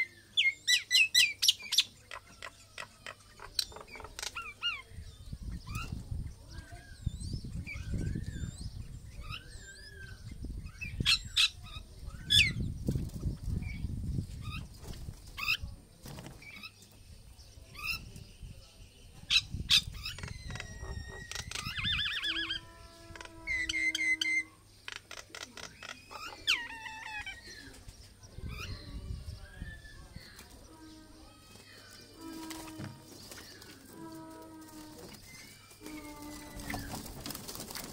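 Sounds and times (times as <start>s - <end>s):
birds whistling and warbling: 0.0s - 37.9s.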